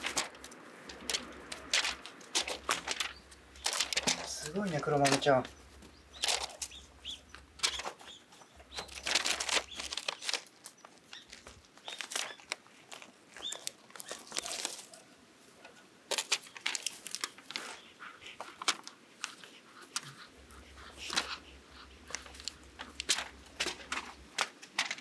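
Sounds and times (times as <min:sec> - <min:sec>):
rustling and scuffling: 0:00.0 - 0:25.0.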